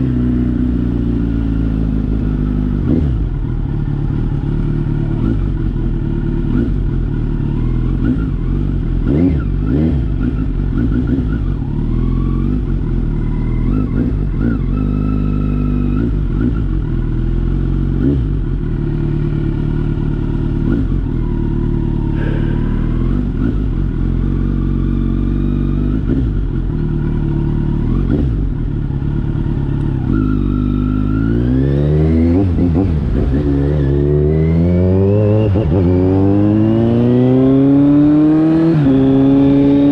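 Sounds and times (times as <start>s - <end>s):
motorcycle engine with throttle blips: 0.0s - 39.9s.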